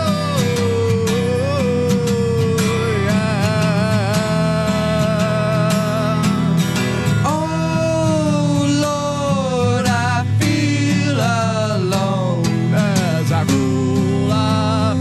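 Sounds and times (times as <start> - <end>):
strummed acoustic guitar: 0.0 - 15.0
wordless singing: 0.0 - 15.0.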